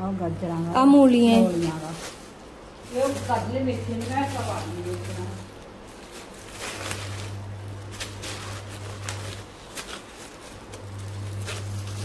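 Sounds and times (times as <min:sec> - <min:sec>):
low steady hum: 0:00.0 - 0:12.0
seed packets rustling: 0:00.8 - 0:12.0
sharp crackles: 0:01.5 - 0:12.0.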